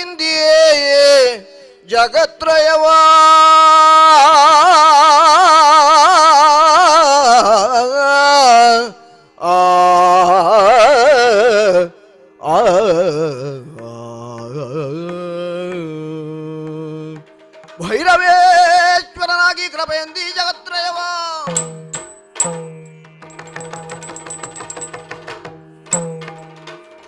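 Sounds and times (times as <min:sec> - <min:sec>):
man singing devotional melody: 0:00.0 - 0:21.8.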